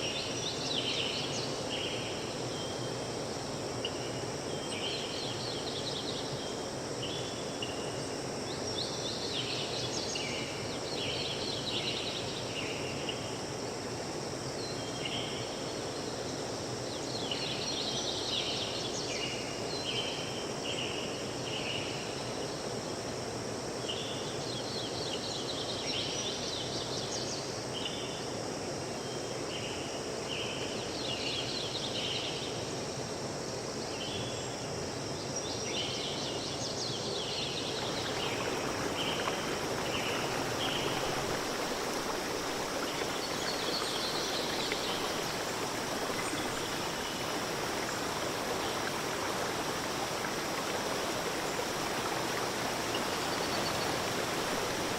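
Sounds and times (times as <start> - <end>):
faint high insect drone: 0.0 - 54.9
steady hiss: 0.0 - 54.9.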